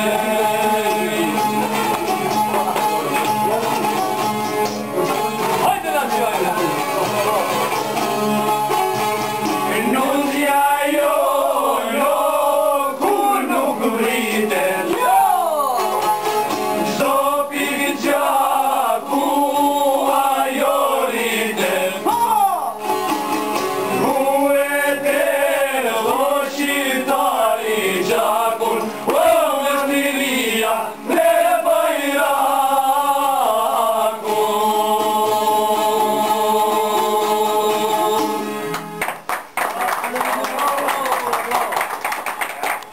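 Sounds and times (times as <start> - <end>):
men singing: 0.0 - 4.3, 4.9 - 8.4, 9.5 - 16.0, 16.8 - 22.7, 23.9 - 38.7.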